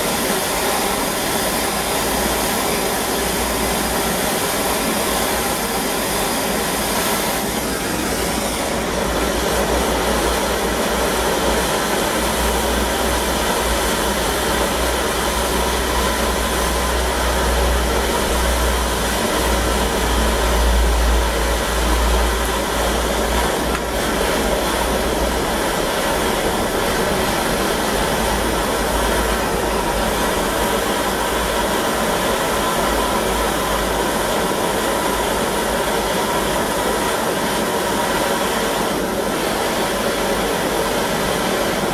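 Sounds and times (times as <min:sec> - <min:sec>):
blowlamp flame hissing: 0:00.0 - 0:41.9.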